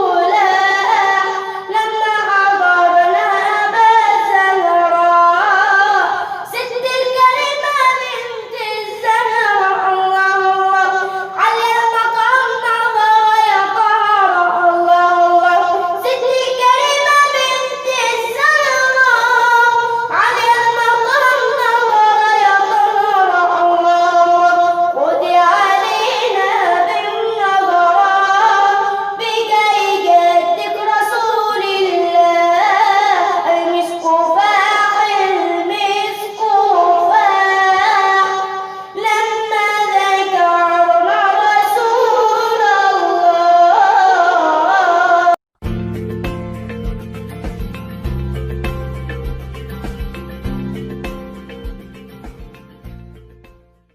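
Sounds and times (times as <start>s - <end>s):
person singing religious song: 0.0s - 45.4s.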